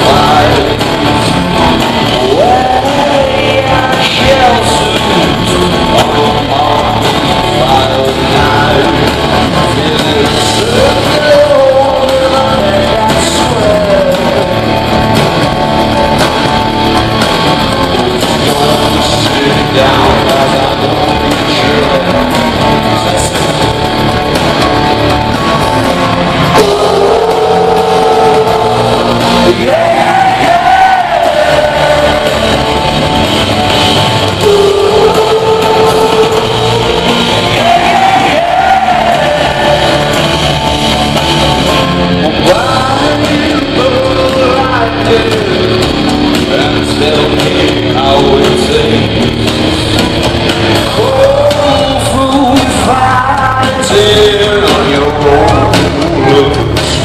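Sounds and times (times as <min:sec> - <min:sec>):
person singing: 0:00.0 - 0:15.3, 0:17.7 - 0:24.4, 0:26.0 - 0:40.8, 0:41.6 - 0:49.3, 0:50.8 - 0:57.0
rock band playing live: 0:00.0 - 0:57.0.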